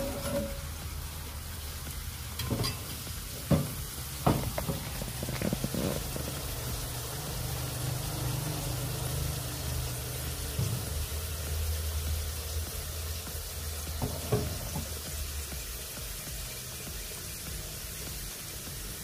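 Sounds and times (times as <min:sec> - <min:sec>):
flatbread sizzling in oil: 0:00.0 - 0:19.0.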